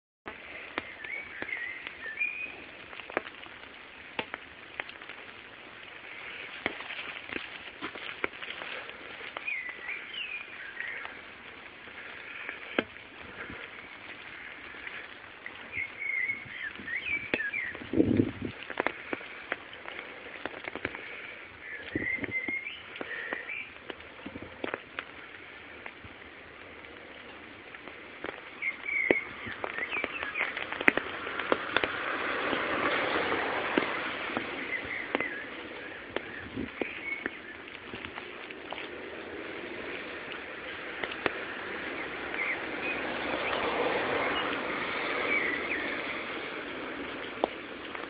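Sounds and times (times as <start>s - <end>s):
rainwater dripping and running: 0.3s - 48.0s
small birds chirping: 0.3s - 48.0s.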